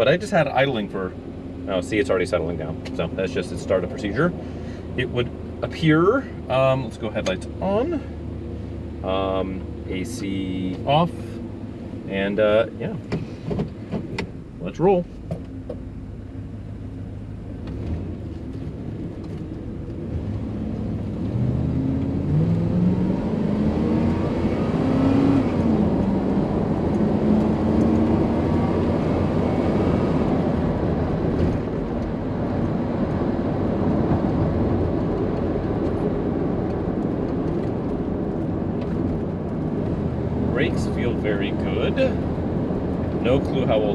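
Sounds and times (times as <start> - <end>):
pickup truck engine: 0.0 - 43.9
road hum: 0.0 - 43.9.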